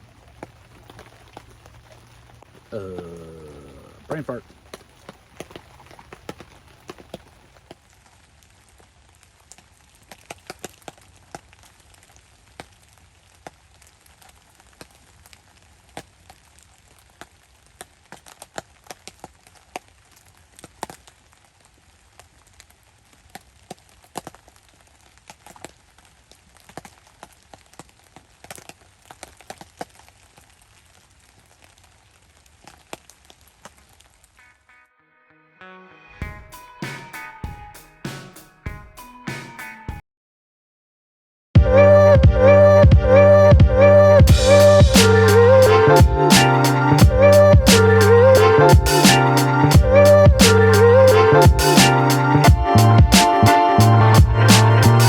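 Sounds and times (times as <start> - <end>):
campfire crackling: 0.0 - 34.6, 44.2 - 55.0
rain falling: 0.0 - 34.6, 41.7 - 55.0.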